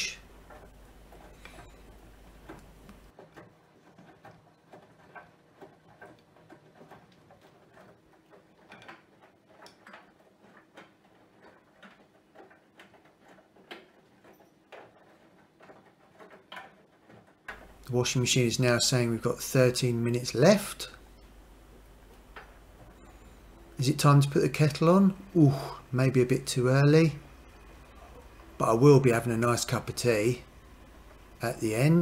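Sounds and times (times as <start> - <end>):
laundry tumbling in washing machine: 0.0 - 32.0.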